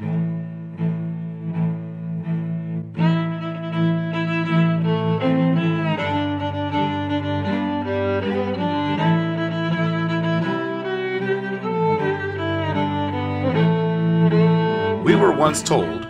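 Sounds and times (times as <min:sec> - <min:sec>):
bowed strings music: 0:00.0 - 0:16.0.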